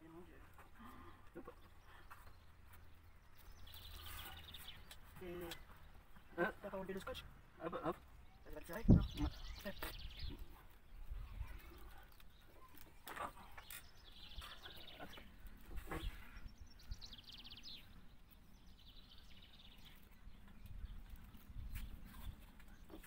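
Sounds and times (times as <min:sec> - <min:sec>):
bird chirps and trills: 0:01.5 - 0:07.2, 0:07.9 - 0:23.0.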